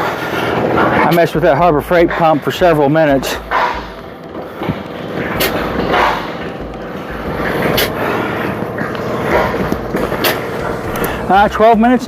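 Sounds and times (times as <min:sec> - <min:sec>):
air pump running: 0:00.0 - 0:12.0.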